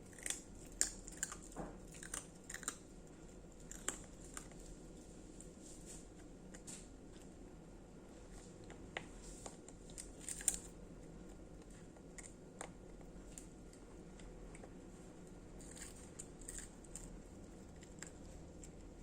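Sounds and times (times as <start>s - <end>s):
dogs crunching crackers: 0.0s - 7.4s, 8.2s - 19.0s.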